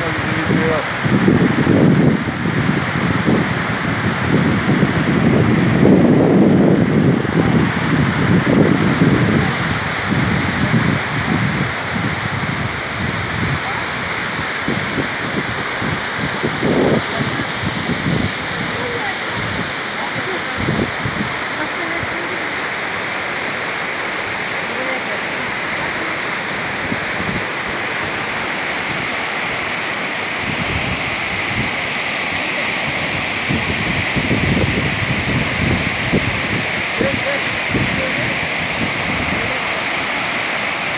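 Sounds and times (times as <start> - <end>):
wind buffeting microphone: 0.0 - 24.6, 25.2 - 40.9
waterfall rushing: 0.0 - 40.9.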